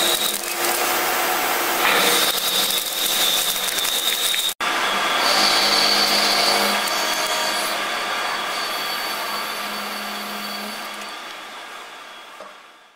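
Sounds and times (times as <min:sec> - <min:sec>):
metal lathe cutting with whine: 0:00.0 - 0:12.8.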